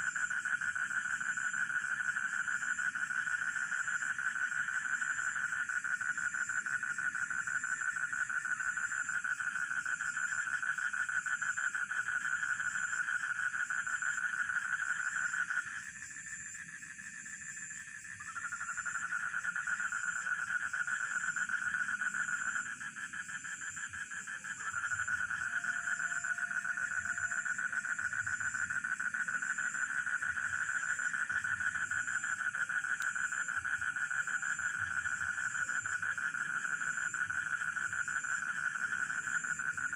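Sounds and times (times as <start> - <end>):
crickets chirping: 0.0 - 39.9
frog chorus: 0.0 - 39.9.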